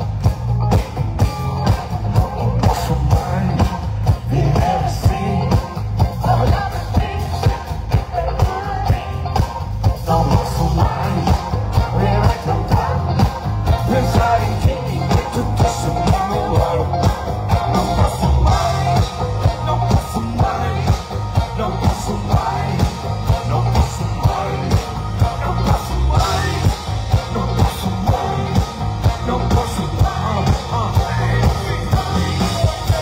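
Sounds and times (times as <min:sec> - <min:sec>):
live pop-rock band: 0:00.0 - 0:33.0
person singing: 0:00.7 - 0:33.0.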